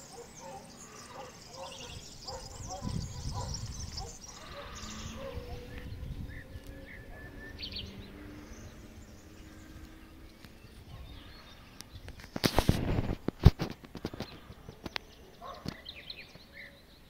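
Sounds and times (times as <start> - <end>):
bird chirps: 0.0 - 12.5, 14.0 - 17.0.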